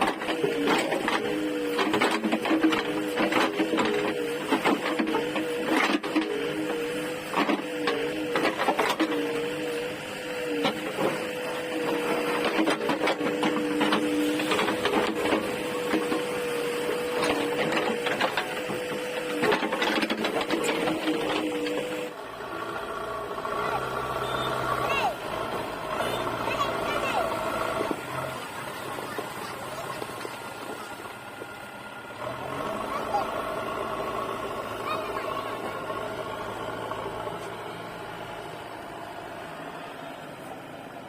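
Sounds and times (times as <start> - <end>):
backhoe loader mechanical whine: 0.0 - 41.0.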